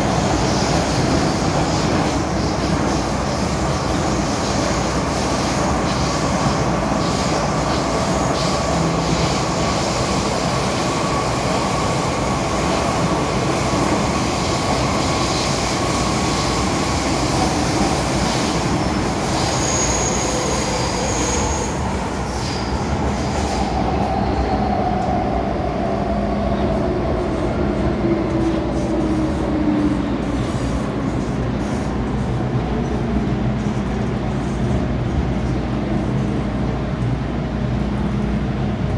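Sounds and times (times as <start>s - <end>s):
metro train rumbling on rails: 0.0s - 38.9s.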